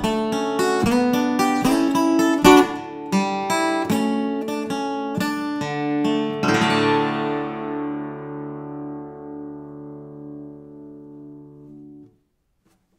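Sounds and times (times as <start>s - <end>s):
acoustic guitar fingerpicking: 0.0s - 12.9s.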